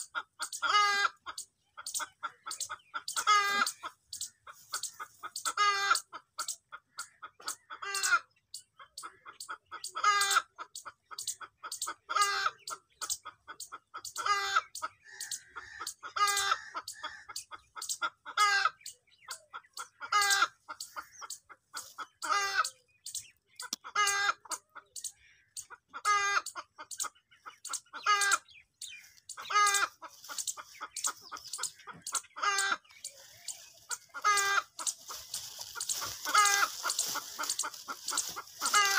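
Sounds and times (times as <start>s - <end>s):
hen clucking: 0.0s - 38.9s.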